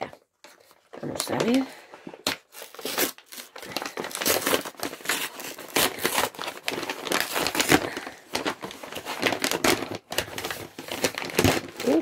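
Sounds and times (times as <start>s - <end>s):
paper bag crinkling: 0.5s - 12.0s.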